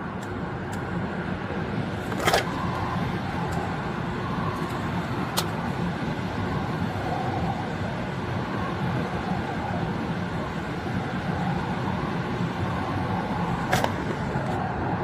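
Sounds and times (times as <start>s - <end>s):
vehicle humming: 0.0s - 15.0s.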